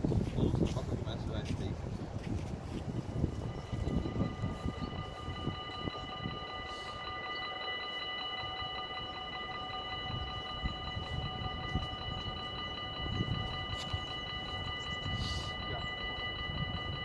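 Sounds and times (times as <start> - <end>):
level crossing warning bell ringing: 2.3 - 17.0.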